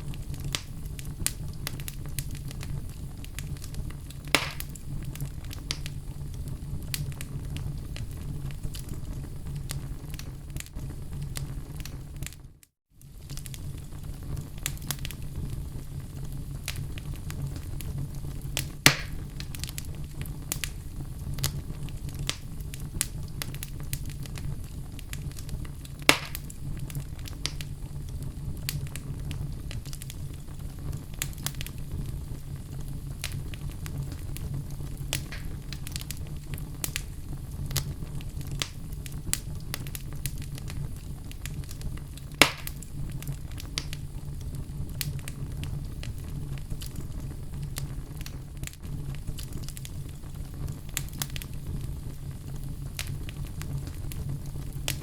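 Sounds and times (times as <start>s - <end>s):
loud sharp fire pops: 0.0s - 12.4s, 13.1s - 55.0s
fireplace fire crackling: 0.0s - 55.0s.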